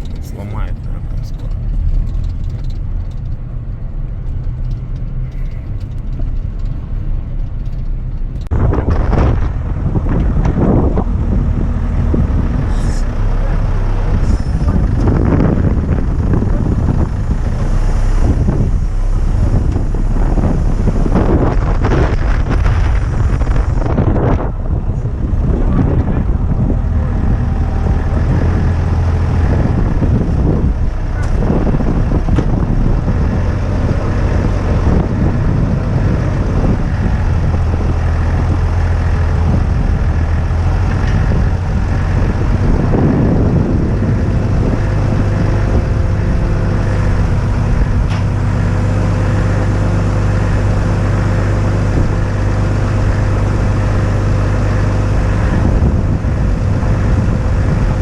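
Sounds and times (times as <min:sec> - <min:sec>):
diesel engine running: 0:00.0 - 0:58.0
wind buffeting microphone: 0:00.0 - 0:58.0.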